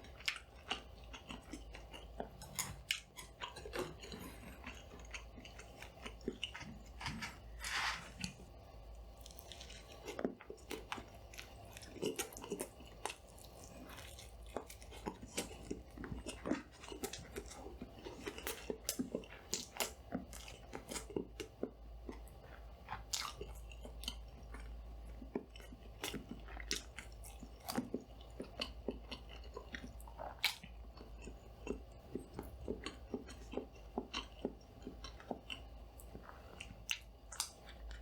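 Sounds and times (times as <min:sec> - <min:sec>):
chewing and crunching: 0:00.0 - 0:38.0
faint low lighting hum: 0:00.0 - 0:38.0.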